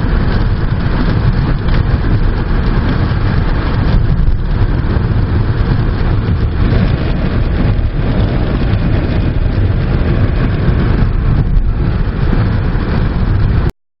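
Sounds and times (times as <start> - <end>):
wind buffeting microphone: 0.0 - 13.7.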